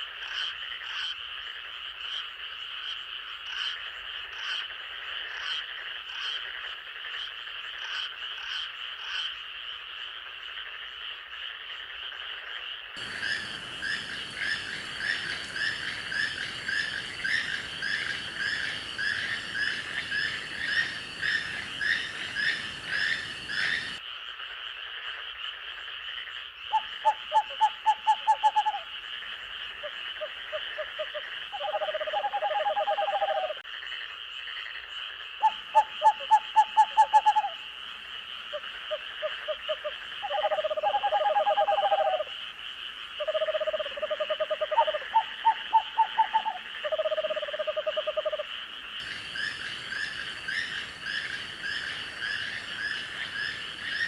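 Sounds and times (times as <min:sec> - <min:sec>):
frogs calling: 0:00.2 - 0:54.0.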